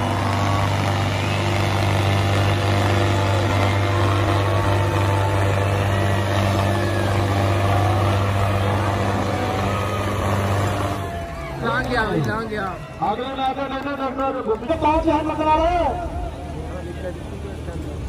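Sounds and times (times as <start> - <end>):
tractor diesel engines droning: 0.0 - 18.0.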